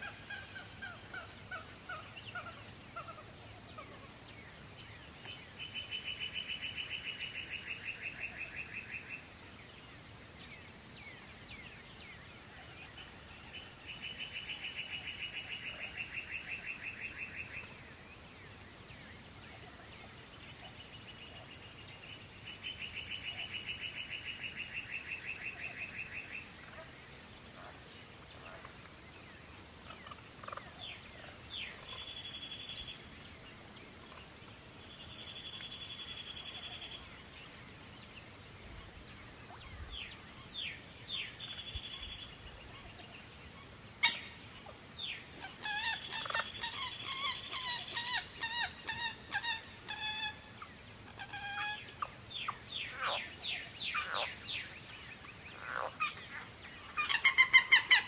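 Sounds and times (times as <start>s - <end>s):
crickets chirping chorus: 0.0s - 58.0s.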